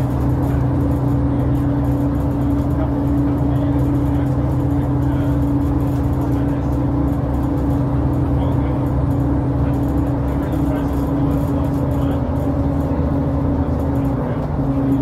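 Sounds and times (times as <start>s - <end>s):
bus diesel engine drone: 0.0s - 15.0s
road and body noise: 0.0s - 15.0s.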